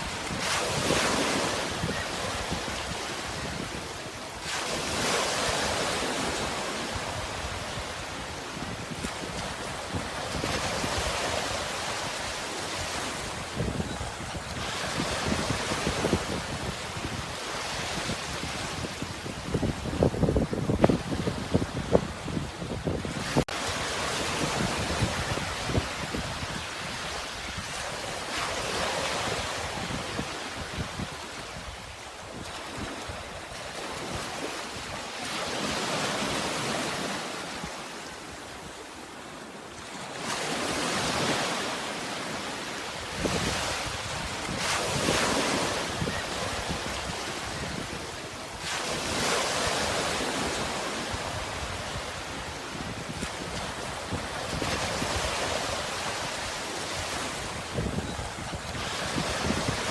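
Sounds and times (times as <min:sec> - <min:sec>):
sea waves breaking: 0:00.0 - 0:31.4, 0:32.0 - 0:59.9
wind rumbling on microphone: 0:00.0 - 0:35.0, 0:43.0 - 0:59.9.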